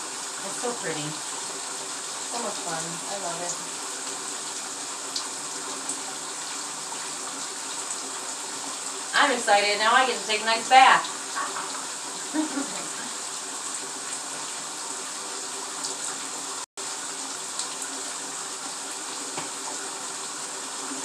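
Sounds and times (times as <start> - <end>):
water pouring into bathtub: 0.0 - 21.0.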